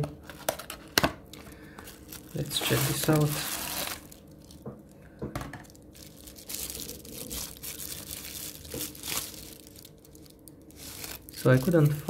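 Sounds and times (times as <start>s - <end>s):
bubble wrap crinkling: 0.2s - 5.0s, 5.6s - 12.0s.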